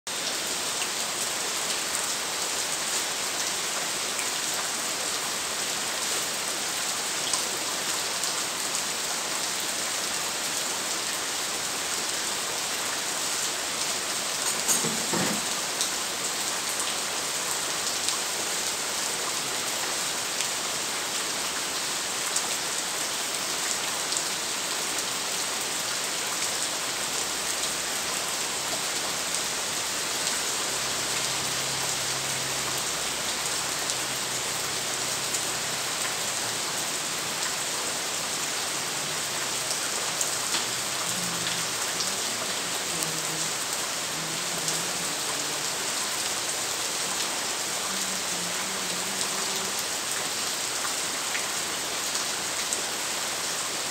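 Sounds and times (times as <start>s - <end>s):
steady rain falling: 0.1s - 53.9s.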